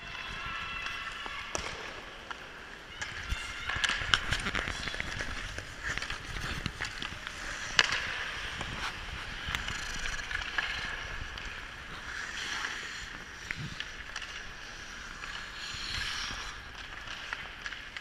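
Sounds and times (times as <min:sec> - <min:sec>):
hockey sticks clacking: 0:00.0 - 0:18.0
skate blades scraping ice: 0:00.0 - 0:18.0.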